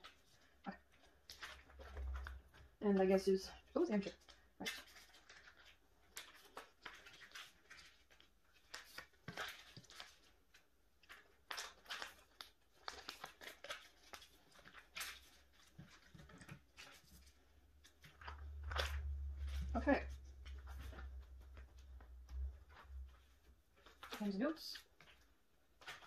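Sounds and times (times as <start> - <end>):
plastic sleeves rustling: 0.0 - 26.0.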